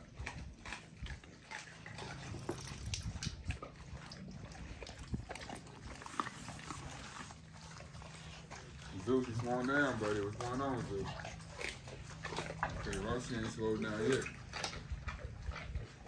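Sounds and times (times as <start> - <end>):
dogs chewing raw meat and bone: 0.0 - 16.0.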